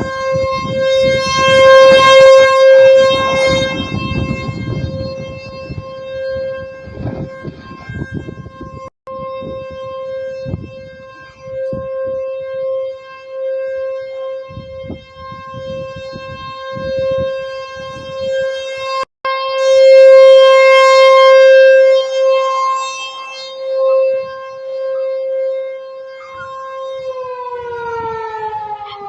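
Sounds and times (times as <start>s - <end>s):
rotating warning siren: 0.0s - 29.0s.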